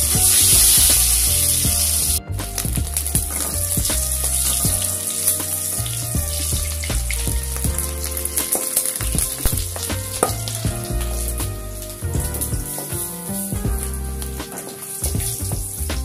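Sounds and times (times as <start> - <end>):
background music with bass: 0.0 - 16.0.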